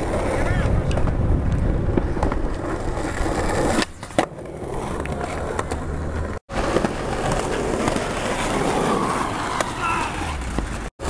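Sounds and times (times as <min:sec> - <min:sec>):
skateboard clack: 0:00.0 - 0:10.9
skateboard wheels rolling on asphalt: 0:00.0 - 0:11.0.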